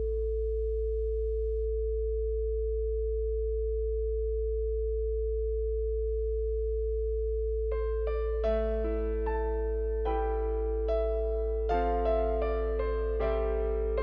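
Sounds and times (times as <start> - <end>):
low sine hum: 0.0 - 14.0.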